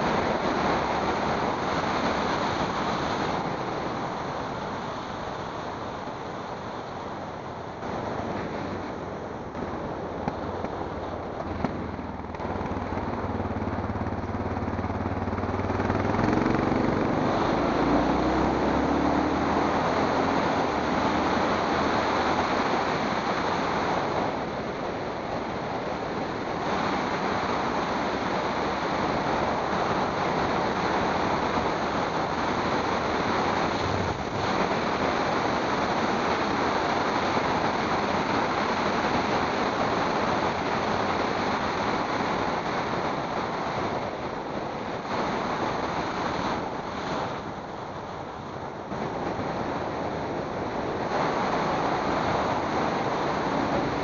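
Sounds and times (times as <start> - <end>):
road noise: 0.0 - 54.0
wind rushing on microphone: 0.0 - 54.0.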